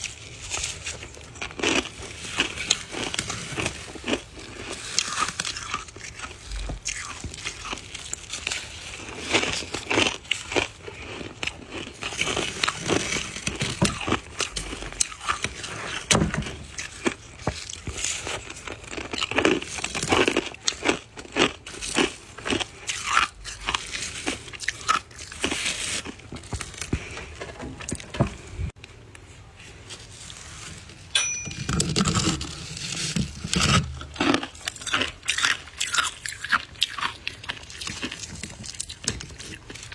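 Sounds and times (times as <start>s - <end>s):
chewing crunchy ice: 0.0s - 27.4s, 31.8s - 39.9s.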